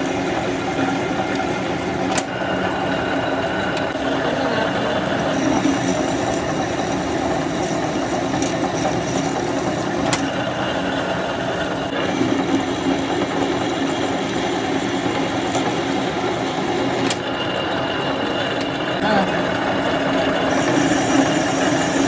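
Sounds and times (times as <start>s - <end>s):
machine motor hum: 0.0s - 22.0s.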